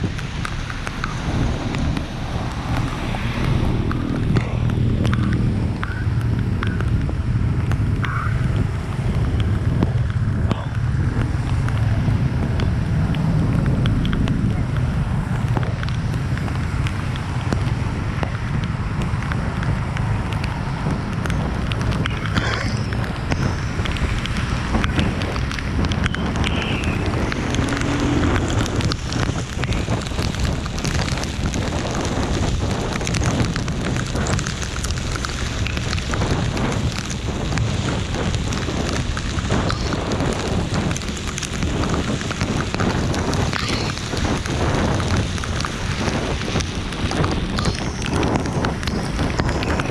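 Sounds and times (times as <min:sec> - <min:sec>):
rain pattering: 0:00.0 - 0:49.9
wind rumble on microphone: 0:00.0 - 0:49.9.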